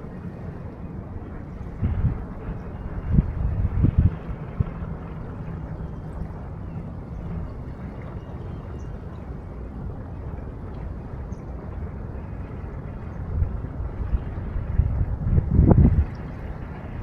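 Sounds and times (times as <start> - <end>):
river water: 0.0 - 17.0
wind rumble on microphone: 0.0 - 17.0.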